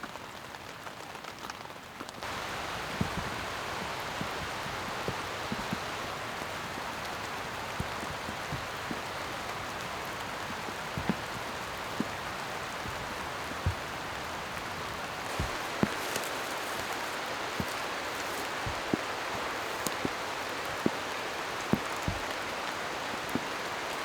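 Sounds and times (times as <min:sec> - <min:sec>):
steady rain falling: 0:00.0 - 0:24.0
heavy raindrops knocking: 0:02.2 - 0:24.0.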